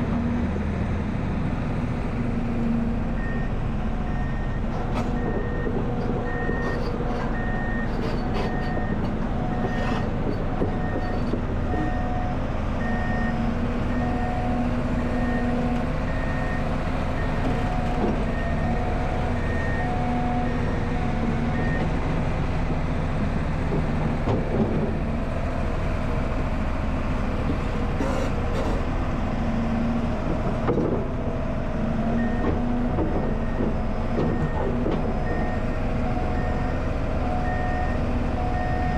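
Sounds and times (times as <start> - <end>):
excavator engine and hydraulics: 0.0 - 38.9.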